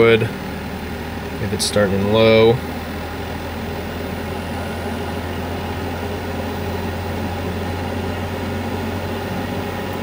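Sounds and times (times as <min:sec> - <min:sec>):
furnace fan humming: 0:00.0 - 0:10.0.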